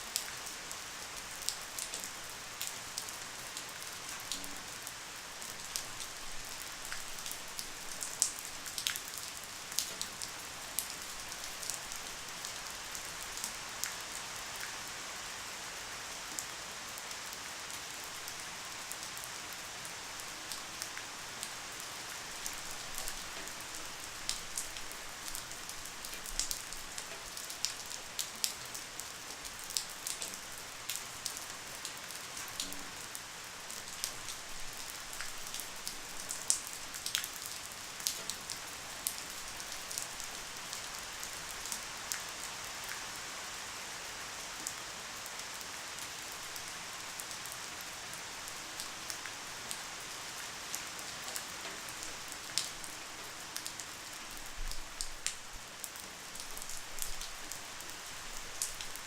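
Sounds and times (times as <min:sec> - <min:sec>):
light rain hissing: 0:00.0 - 0:59.0.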